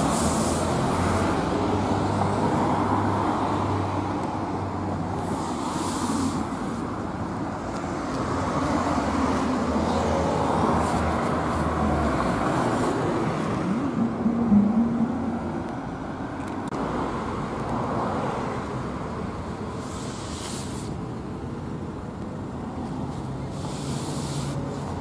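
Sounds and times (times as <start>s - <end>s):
street noise: 0.0s - 25.0s.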